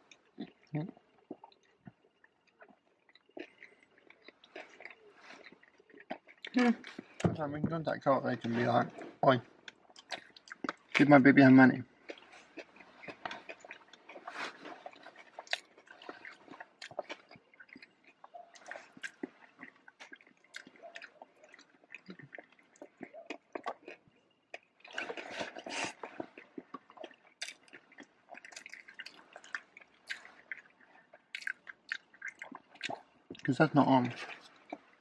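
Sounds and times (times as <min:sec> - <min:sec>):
chewing and wet mouth sounds: 0:00.0 - 0:07.4, 0:08.4 - 0:35.0.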